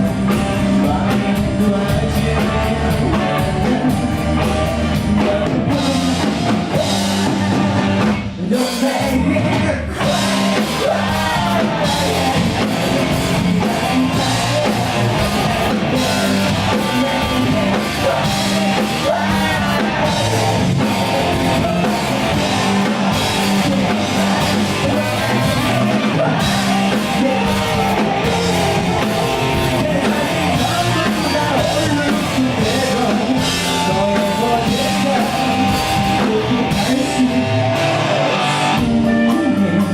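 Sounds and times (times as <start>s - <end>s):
live rock band: 0.0s - 39.9s
person singing: 0.0s - 39.9s.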